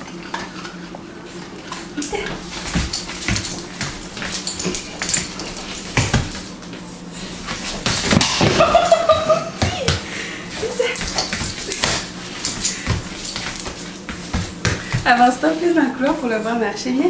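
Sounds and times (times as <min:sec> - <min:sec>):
dog feet tapping on hardwood floor: 0:02.1 - 0:16.2.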